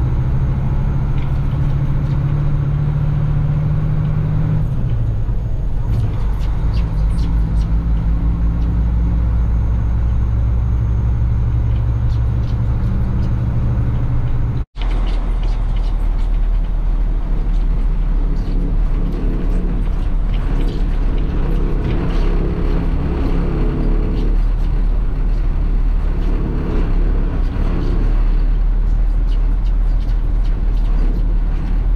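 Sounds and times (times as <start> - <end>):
heavy machinery engine running: 0.0 - 31.9
mid-pitched engine drone: 0.0 - 31.9.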